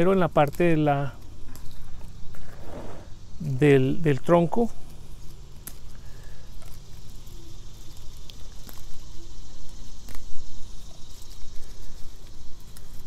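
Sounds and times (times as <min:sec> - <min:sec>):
pine needles snapping and rustling: 0:00.0 - 0:02.6, 0:04.8 - 0:13.0.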